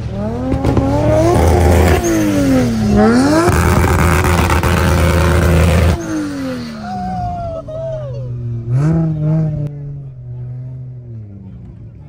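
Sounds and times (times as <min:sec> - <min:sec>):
car engine revving: 0:00.0 - 0:12.0
tire wheelspin roar: 0:00.0 - 0:12.0.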